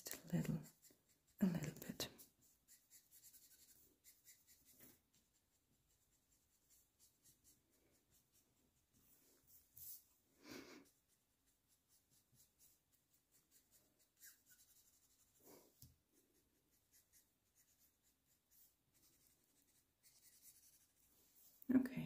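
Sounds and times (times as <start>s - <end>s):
marker scratching on paper: 0.2s - 9.0s, 10.8s - 15.5s, 16.3s - 21.1s.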